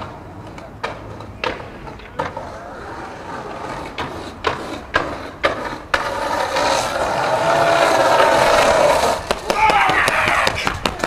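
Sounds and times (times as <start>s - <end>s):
skateboard clacking: 0.0s - 11.0s
skateboard wheels rolling on asphalt: 0.0s - 11.0s.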